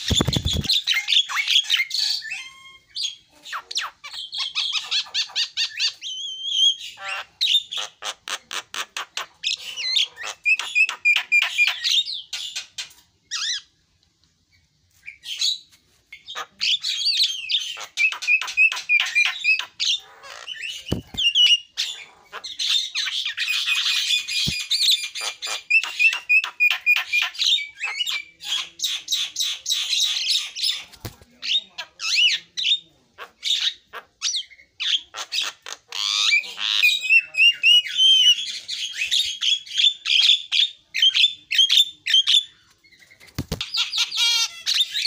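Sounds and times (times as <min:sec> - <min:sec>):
myna chattering and whistling: 0:00.0 - 0:12.3, 0:16.2 - 0:45.0.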